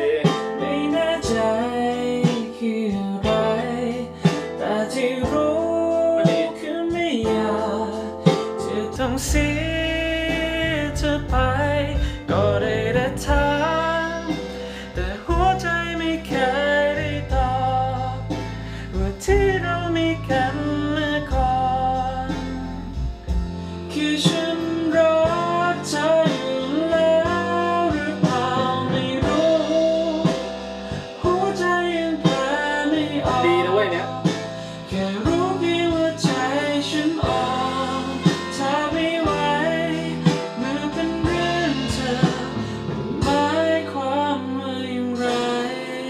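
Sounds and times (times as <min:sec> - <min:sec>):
man singing: 0:00.0 - 0:23.0, 0:23.8 - 0:46.0
guitar: 0:00.0 - 0:46.0.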